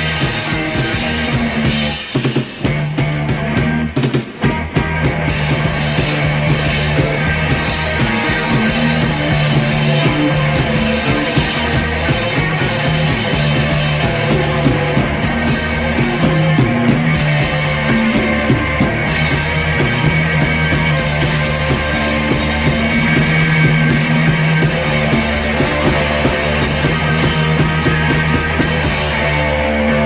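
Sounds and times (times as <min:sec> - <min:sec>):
rock music with guitars and beat: 0:00.0 - 0:30.0.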